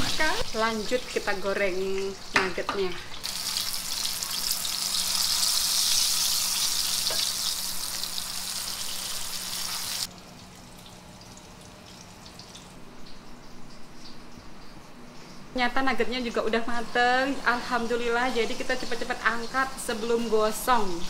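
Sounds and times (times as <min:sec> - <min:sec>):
chicken frying in hot oil: 0:00.0 - 0:14.8, 0:16.7 - 0:21.0.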